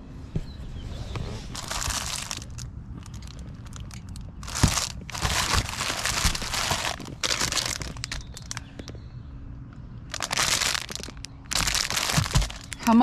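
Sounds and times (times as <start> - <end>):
crinkling and rustling: 0.4 - 9.0, 10.1 - 13.0.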